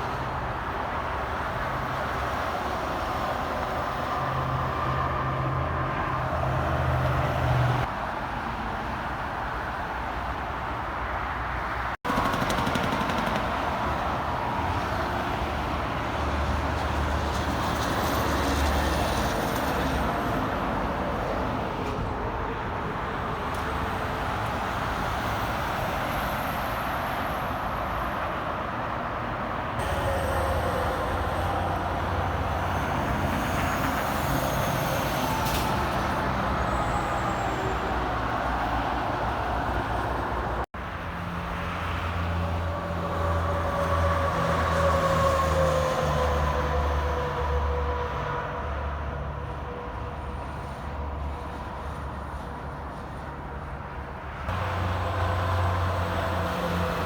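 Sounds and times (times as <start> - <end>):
heavy trucks passing: 0.0 - 57.0
highway traffic passing: 0.0 - 57.0.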